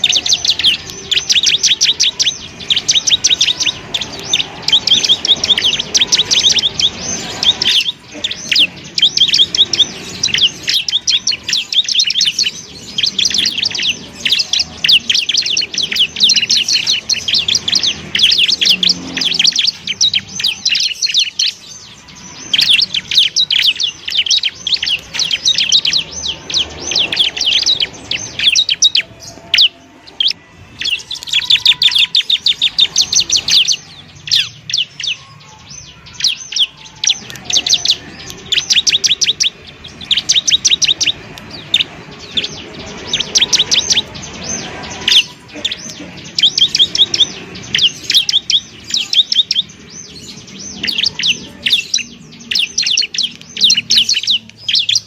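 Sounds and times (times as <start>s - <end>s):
bird singing sharp high chirps: 0.0s - 55.0s.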